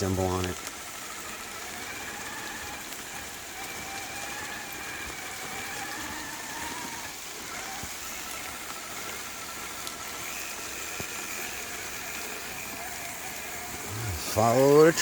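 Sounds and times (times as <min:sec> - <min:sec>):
rain hiss: 0:00.0 - 0:15.0
toy car motor whine: 0:00.0 - 0:15.0.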